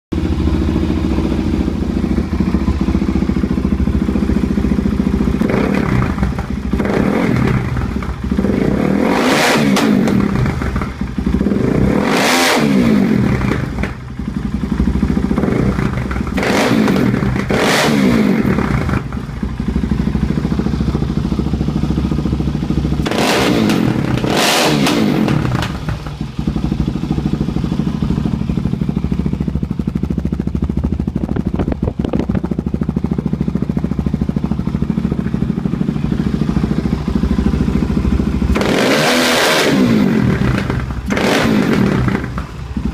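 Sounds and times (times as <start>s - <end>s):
motorcycle engine idling and revving: 0.1s - 42.9s.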